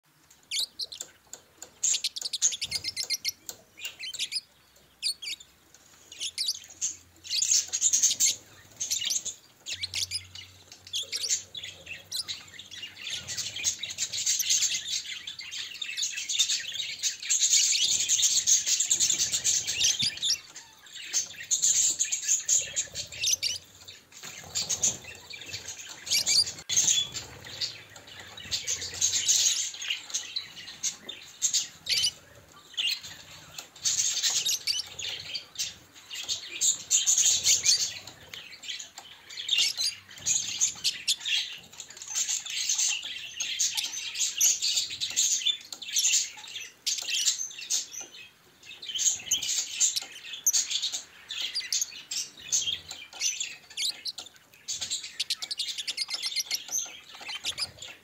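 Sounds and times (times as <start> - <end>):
budgerigars chirping: 0.5 - 58.0.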